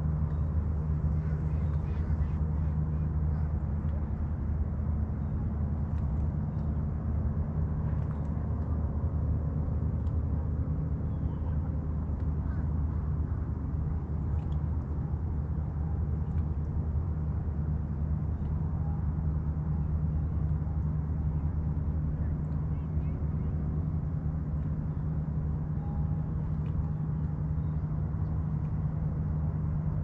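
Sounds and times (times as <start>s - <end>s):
boat engine droning: 0.0s - 30.0s.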